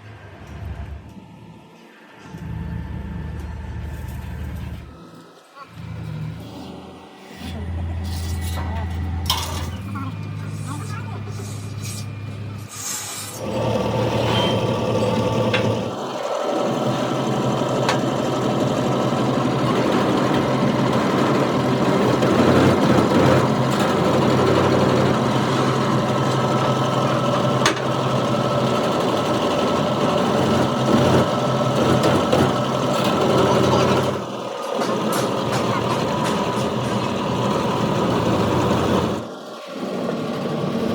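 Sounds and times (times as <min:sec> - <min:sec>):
shop machinery humming: 0:00.0 - 0:40.9.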